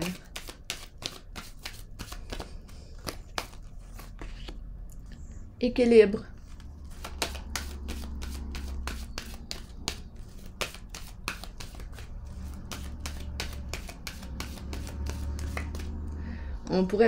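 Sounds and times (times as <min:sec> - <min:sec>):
cards shuffled by hand: 0:00.0 - 0:04.6, 0:06.4 - 0:16.1.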